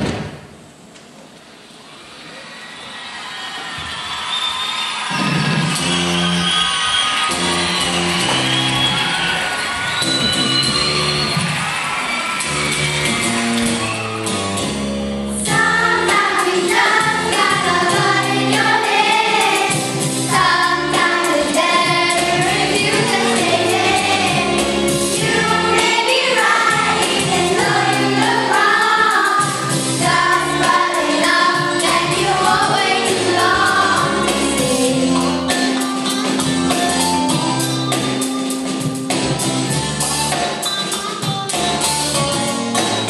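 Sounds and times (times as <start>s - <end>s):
instrumental backing music: 7.2s - 43.0s.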